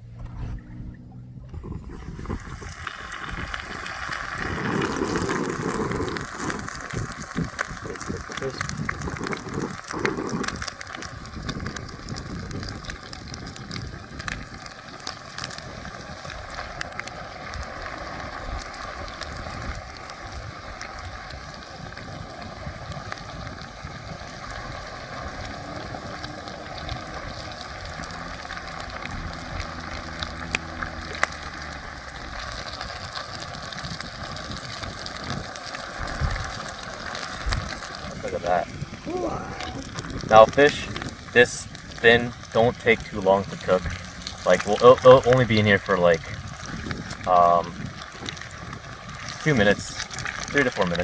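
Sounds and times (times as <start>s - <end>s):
fish deep-frying in oil: 1.6s - 51.0s.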